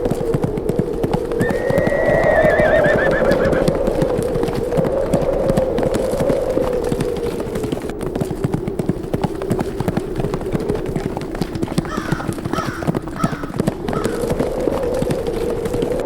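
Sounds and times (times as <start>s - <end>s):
bird calling: 0.0s - 7.9s, 10.0s - 16.0s
horses galloping: 0.0s - 16.0s
wind: 0.0s - 16.0s.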